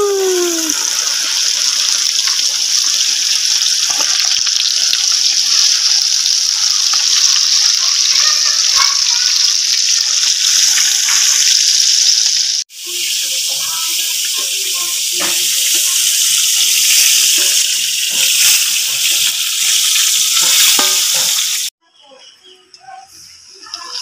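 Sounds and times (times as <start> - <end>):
chicken deep-frying in oil: 0.0 - 21.7, 22.8 - 24.0.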